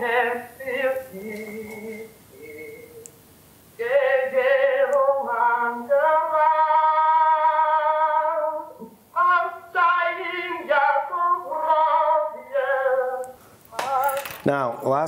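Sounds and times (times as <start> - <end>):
man singing unaccompanied: 0.0 - 3.1, 3.8 - 15.0.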